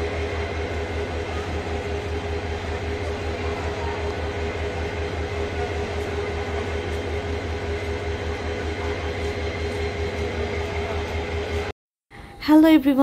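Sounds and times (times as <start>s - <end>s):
train rumbling: 0.0s - 12.4s.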